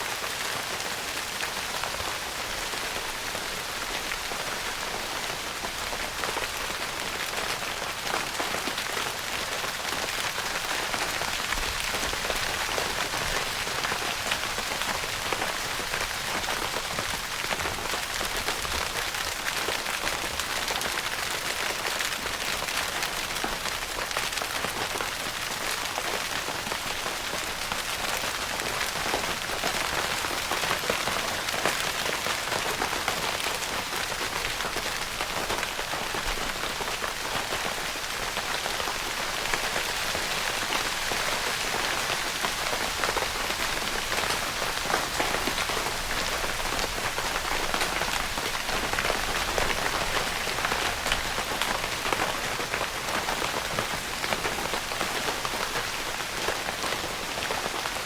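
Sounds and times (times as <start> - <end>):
rain pattering on a tent: 0.0 - 58.0.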